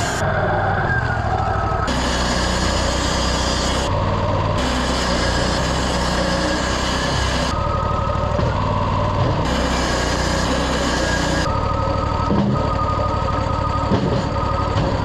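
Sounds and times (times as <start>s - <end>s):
band sawmill engine droning: 0.0s - 15.0s.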